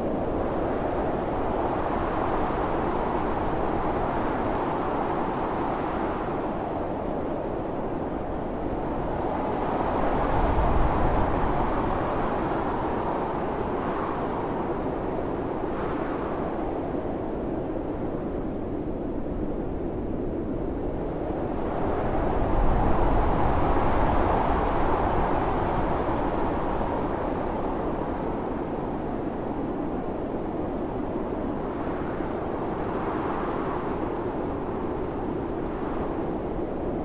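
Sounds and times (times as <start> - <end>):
blizzard wind gusting: 0.0 - 37.0.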